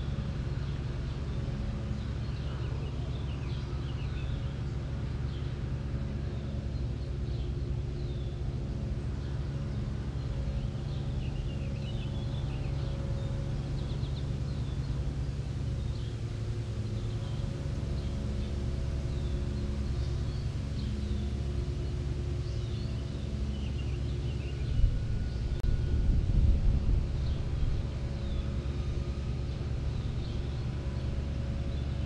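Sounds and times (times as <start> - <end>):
small birds chirping: 0.0 - 25.6, 26.9 - 32.0
steady low hum: 0.0 - 32.0.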